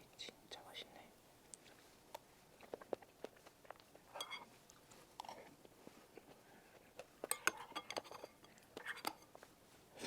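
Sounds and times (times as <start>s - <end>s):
close-miked chewing: 1.5s - 9.6s.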